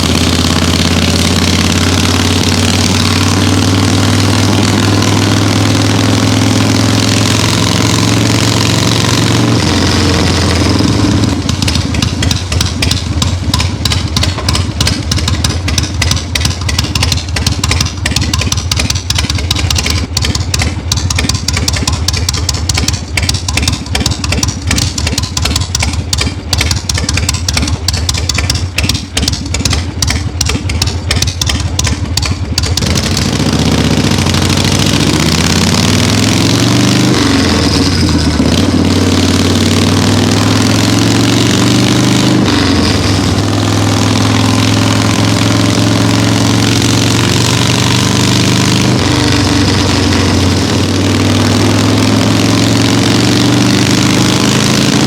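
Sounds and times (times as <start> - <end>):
motorcycle engine exhaust thuds: 9.3 - 54.2.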